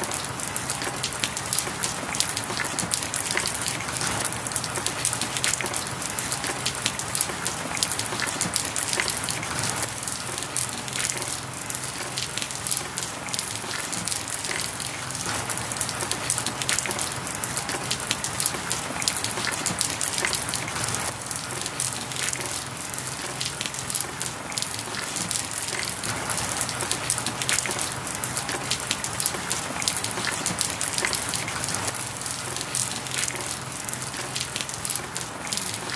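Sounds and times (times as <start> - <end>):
dense crackling hiss: 0.0 - 35.9.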